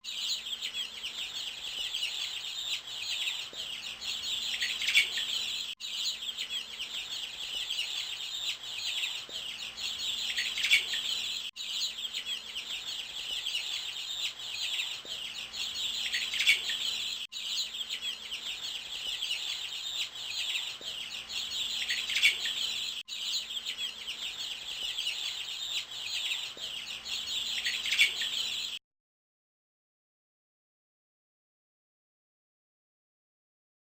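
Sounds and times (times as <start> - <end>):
sparrows chirping: 0.0 - 28.8.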